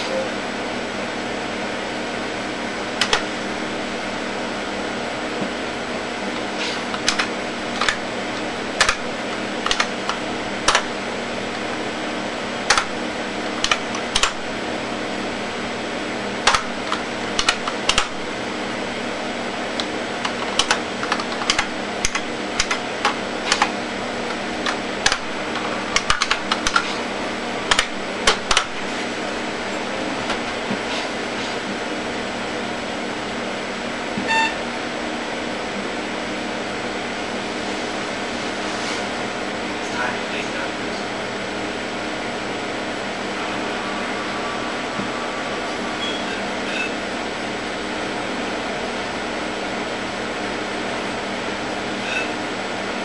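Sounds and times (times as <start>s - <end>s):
computer fans whirring hum: 0.0s - 53.0s.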